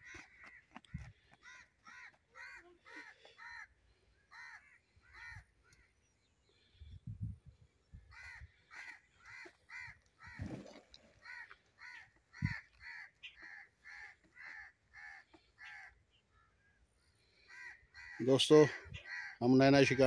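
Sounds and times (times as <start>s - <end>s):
bird cawing: 0.0s - 6.0s, 8.1s - 20.0s.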